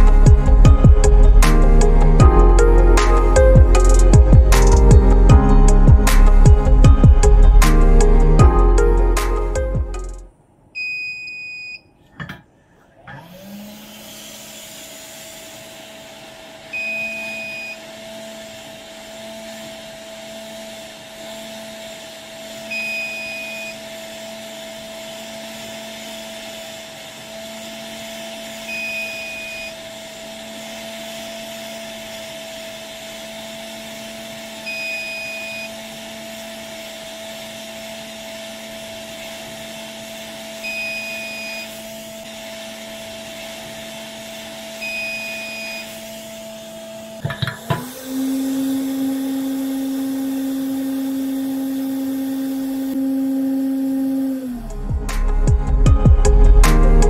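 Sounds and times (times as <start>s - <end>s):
hot-air gun humming and hissing: 0.0s - 10.3s, 12.2s - 57.0s.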